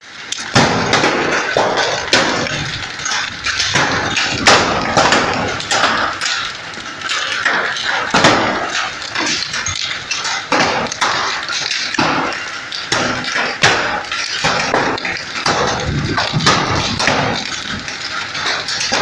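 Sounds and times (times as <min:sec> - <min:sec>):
hail clattering: 0:00.0 - 0:19.0.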